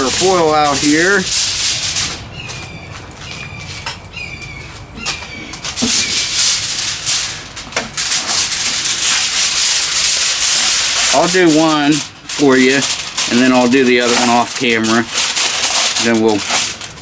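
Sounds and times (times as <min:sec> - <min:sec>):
aluminum foil crinkling: 0:00.0 - 0:02.7, 0:04.7 - 0:17.0.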